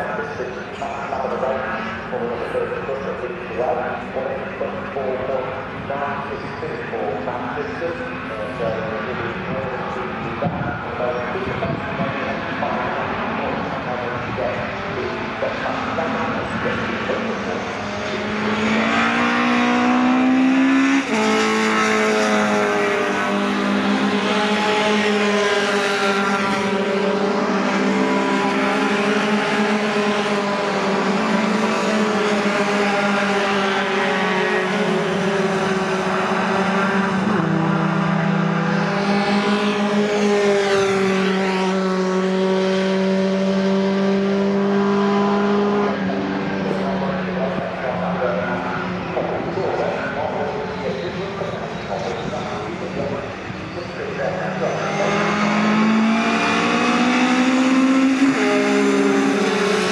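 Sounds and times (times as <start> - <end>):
truck engines at full throttle: 0.0 - 59.9.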